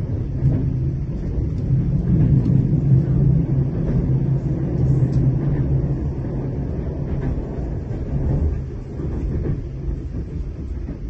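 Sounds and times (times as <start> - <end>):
train hum: 0.0 - 11.0
train rumble inside carriage: 0.0 - 11.0.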